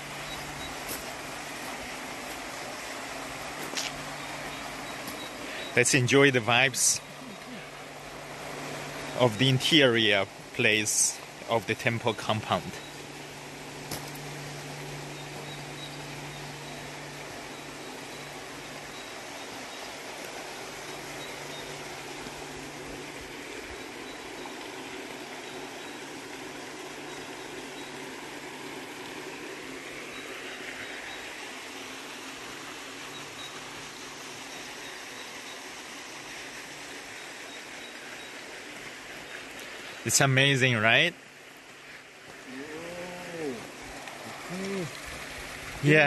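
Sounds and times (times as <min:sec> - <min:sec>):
outdoor hiss: 0:00.0 - 0:46.0.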